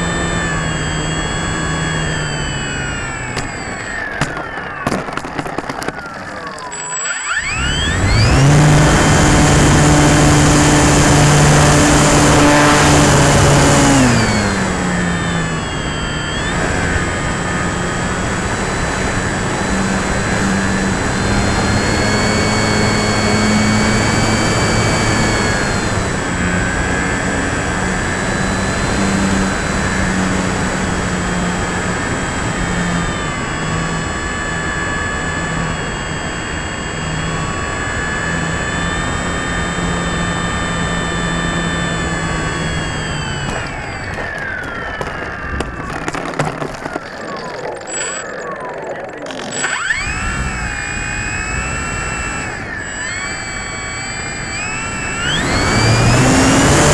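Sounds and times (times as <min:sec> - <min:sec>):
model plane electric motor: 0:00.0 - 0:56.9.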